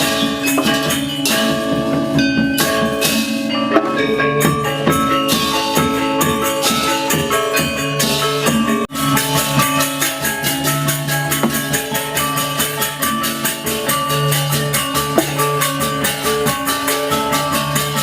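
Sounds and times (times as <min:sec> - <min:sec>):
drums and cymbals beat: 0:00.0 - 0:18.0
gongs: 0:00.0 - 0:18.0
metal keyed instruments ringing: 0:00.0 - 0:18.0.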